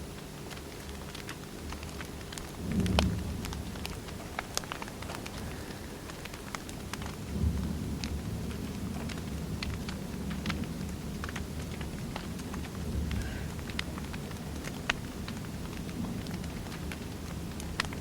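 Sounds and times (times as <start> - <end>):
low rumble of flames: 0.0 - 18.0
steady hiss: 0.0 - 18.0
wood fire crackling and popping: 0.0 - 18.0.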